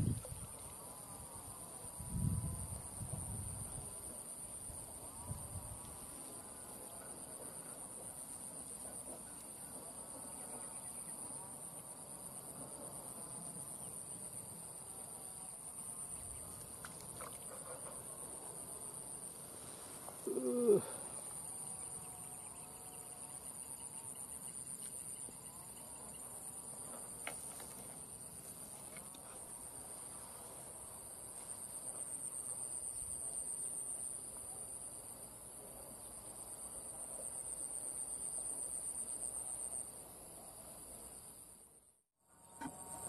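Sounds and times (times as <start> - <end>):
insects chirring: 0.0 - 41.6.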